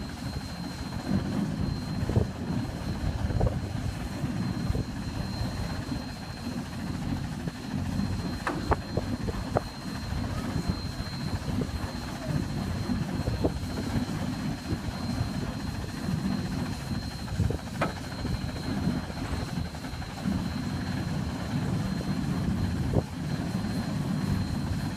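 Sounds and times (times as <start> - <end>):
machinery low rumble: 0.0 - 24.9
thin high whine: 0.0 - 24.9.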